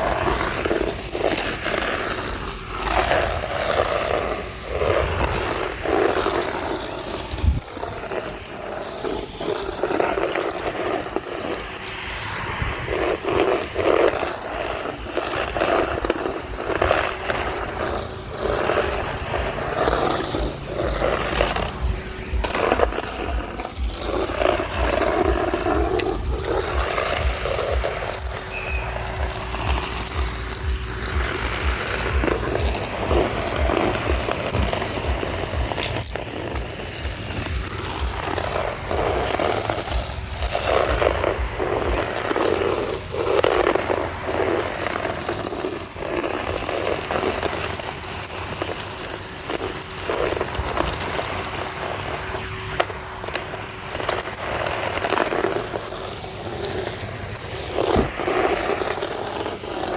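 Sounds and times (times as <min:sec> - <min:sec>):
vacuum cleaner motor hum: 0:00.0 - 0:59.9
vacuum nozzle sucking up grit: 0:00.0 - 0:59.9.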